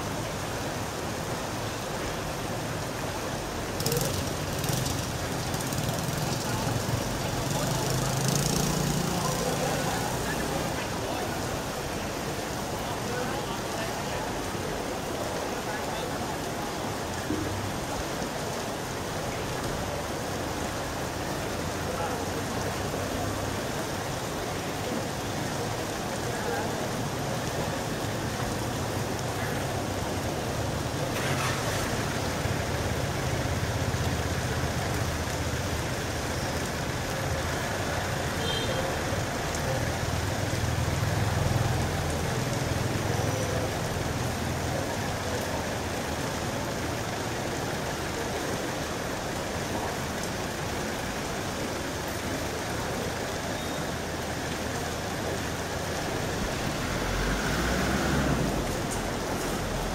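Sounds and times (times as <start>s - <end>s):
rain falling on street: 0.0s - 59.9s
vehicle engines rumbling: 0.0s - 59.9s.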